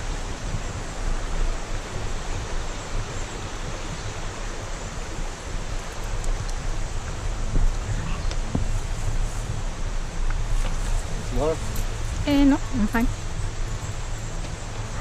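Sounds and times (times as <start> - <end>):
low rumble on microphone: 0.0 - 15.0
river flowing over rocks: 0.0 - 15.0.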